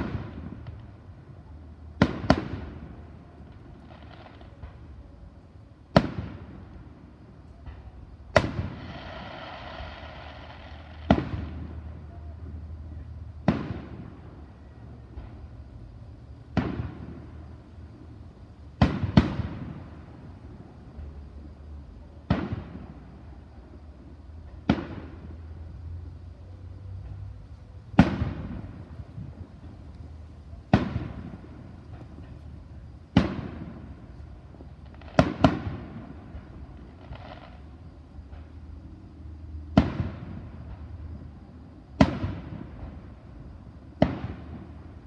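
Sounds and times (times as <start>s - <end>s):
fireworks bursting with echo: 0.0s - 26.1s, 26.8s - 45.0s.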